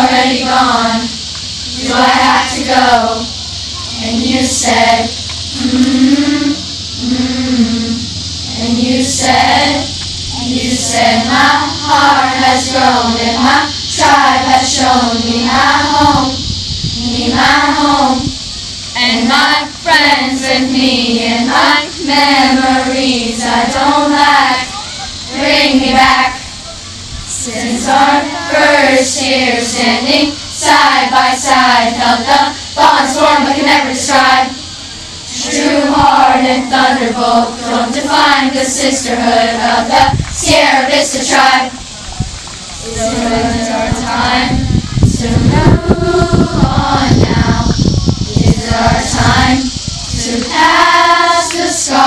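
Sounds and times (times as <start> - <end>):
girls singing in unison: 0.0 - 26.6, 27.3 - 41.9, 42.8 - 52.0.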